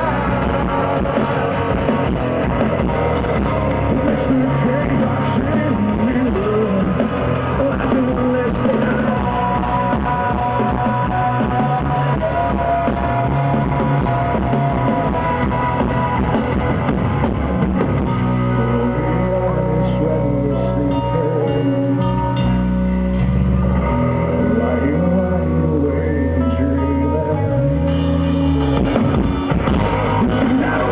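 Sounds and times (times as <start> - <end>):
rock band playing: 0.0 - 30.9.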